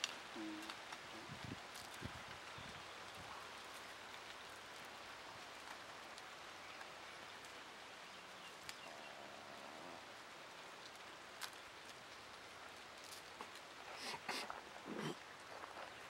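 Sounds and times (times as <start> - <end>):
dry leaf crackling: 0.0 - 7.6, 10.6 - 16.0
faint steady hiss: 0.0 - 16.0.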